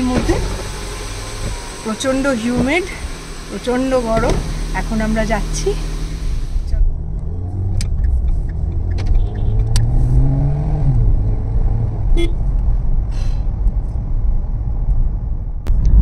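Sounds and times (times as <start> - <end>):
car engine: 0.0 - 16.0
road rumble: 0.0 - 16.0.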